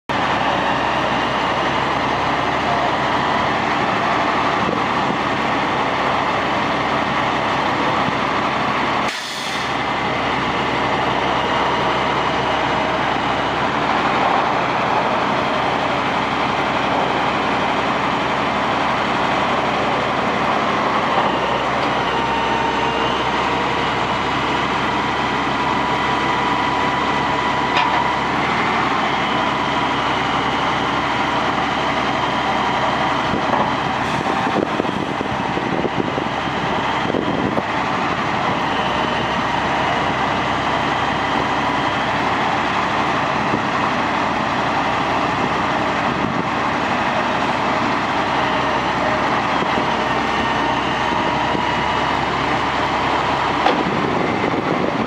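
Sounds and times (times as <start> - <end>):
hydraulic whine: 0.1 - 55.0
truck engine drone: 0.1 - 55.0.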